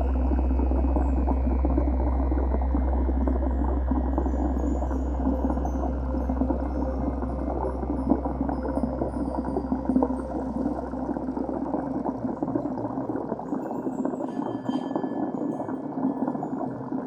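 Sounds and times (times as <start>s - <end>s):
low steady hum: 0.0s - 15.0s
water bubbling underwater: 0.0s - 17.0s.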